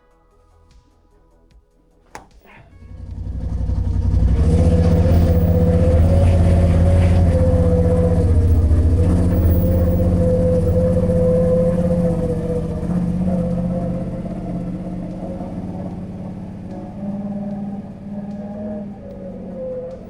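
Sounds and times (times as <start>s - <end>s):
engine running with whine: 2.7s - 20.0s.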